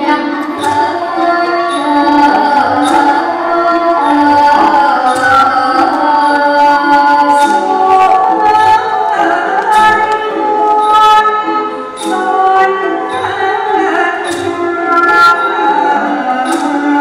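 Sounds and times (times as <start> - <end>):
classical ensemble playing: 0.0 - 17.0
person singing melodic line: 0.0 - 17.0.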